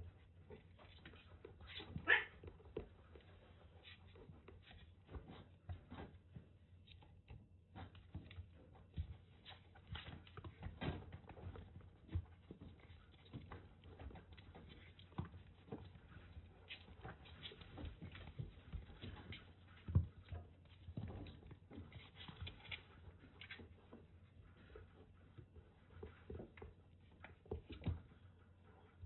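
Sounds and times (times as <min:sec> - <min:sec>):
kittens' paws pattering on mat: 0:00.0 - 0:29.0.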